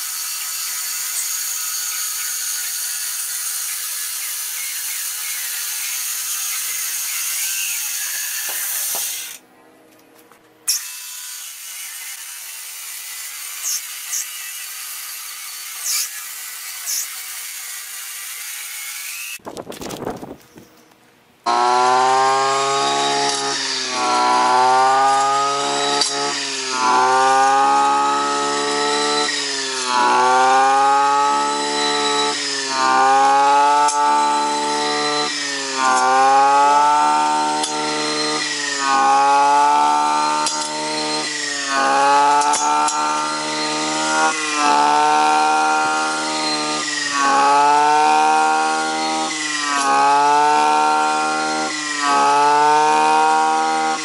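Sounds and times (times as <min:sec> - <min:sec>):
brush cutter engine at high revs: 0:00.0 - 0:09.4, 0:10.7 - 0:19.4, 0:21.5 - 0:54.0.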